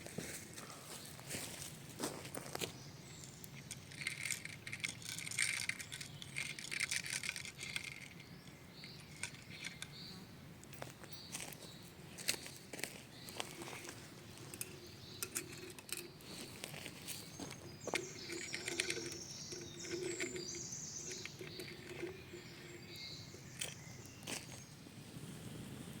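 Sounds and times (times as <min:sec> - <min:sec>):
bird chirping: 0:02.5 - 0:24.9.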